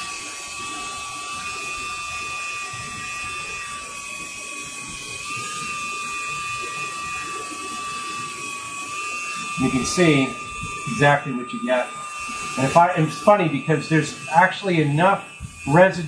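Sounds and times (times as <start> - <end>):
rotary tool high whine: 0.0 - 16.0.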